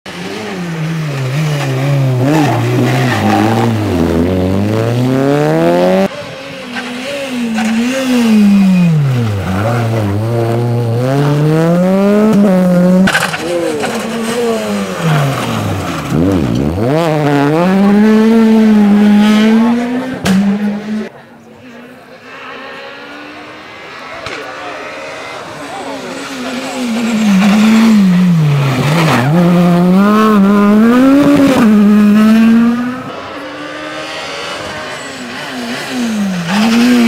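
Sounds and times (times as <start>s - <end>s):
rally car engine revving: 0.1s - 21.2s, 21.8s - 37.0s.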